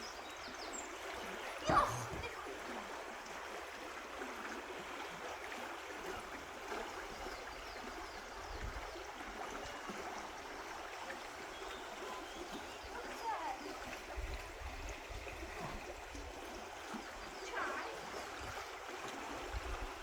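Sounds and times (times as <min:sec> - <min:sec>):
stream water babbling: 0:00.0 - 0:20.0.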